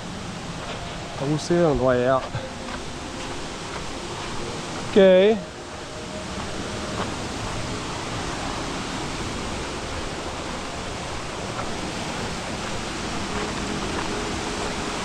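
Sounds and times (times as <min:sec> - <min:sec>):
waterfall and rushing river: 0:00.0 - 0:15.0.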